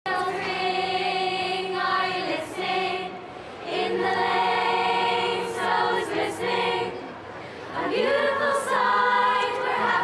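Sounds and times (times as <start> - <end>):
girls' choir singing a carol: 0.1 - 10.0.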